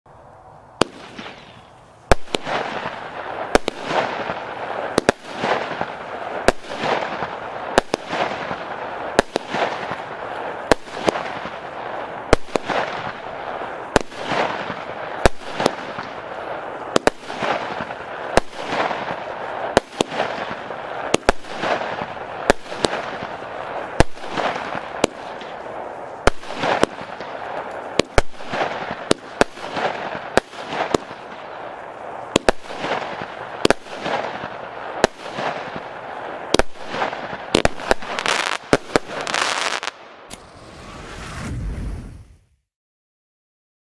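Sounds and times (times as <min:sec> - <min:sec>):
fireworks crackle: 0:00.2 - 0:42.6
fireworks reports: 0:00.4 - 0:42.5.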